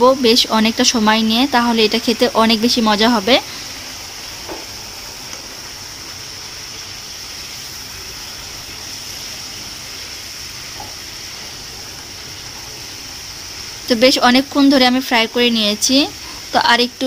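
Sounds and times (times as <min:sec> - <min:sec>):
crab frying in oil sizzling: 0:00.0 - 0:17.0.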